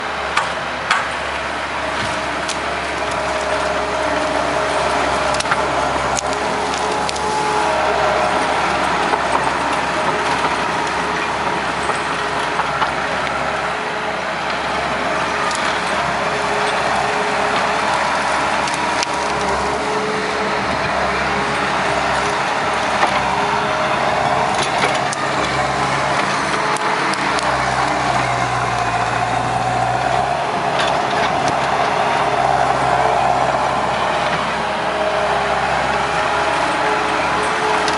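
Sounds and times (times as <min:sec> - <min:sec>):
diesel engine running under load: 0:00.0 - 0:37.9
roots and sticks snapping: 0:01.9 - 0:37.9.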